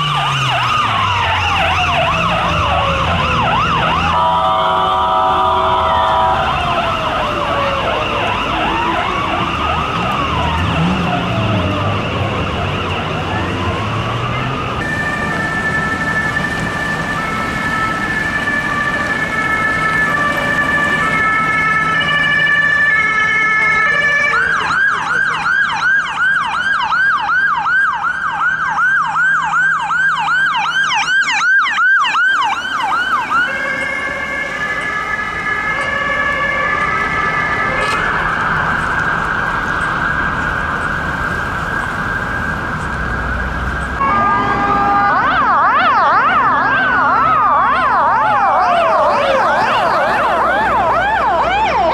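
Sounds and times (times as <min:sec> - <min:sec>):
siren yelping: 0:00.0 - 0:51.9
sirens wailing: 0:00.0 - 0:51.9
two-tone siren: 0:00.0 - 0:51.9.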